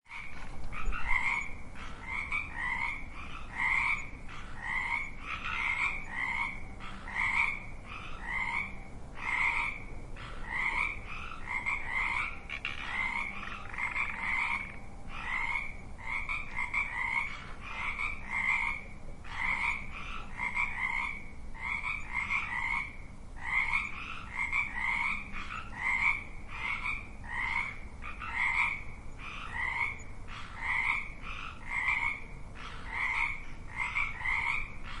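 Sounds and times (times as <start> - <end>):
frogs croaking: 0.1 - 35.0.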